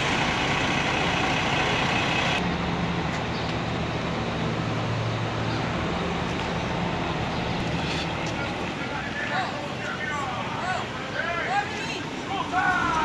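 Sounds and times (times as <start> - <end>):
diesel bus engine running: 0.0 - 13.0
street traffic: 0.0 - 13.0.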